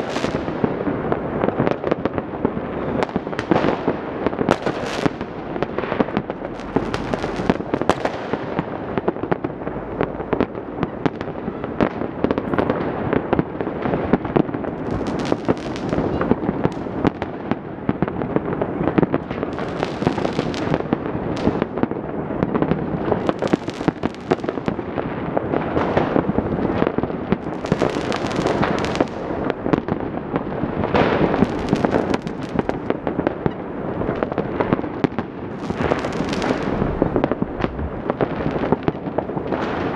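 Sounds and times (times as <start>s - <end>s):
fireworks and firecrackers banging: 0.0s - 39.9s.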